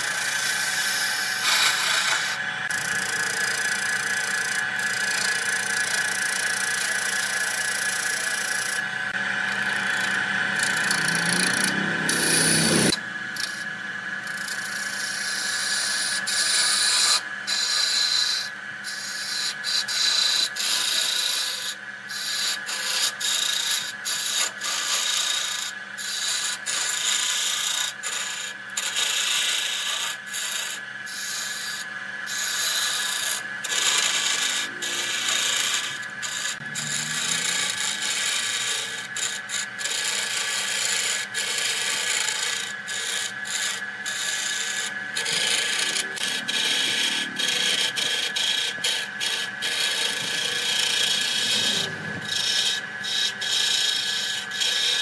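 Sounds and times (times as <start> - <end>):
lathe motor humming: 0.0 - 28.6, 29.2 - 55.0
lathe tool scraping wood: 0.0 - 55.0.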